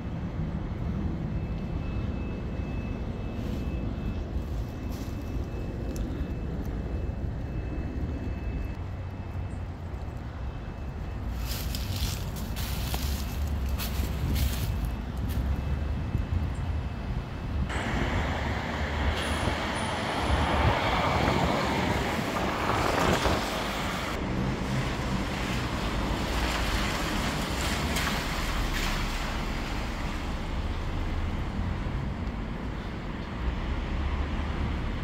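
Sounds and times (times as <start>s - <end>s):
traffic rumble: 0.0s - 35.0s
vehicles passing on wet road: 0.0s - 35.0s.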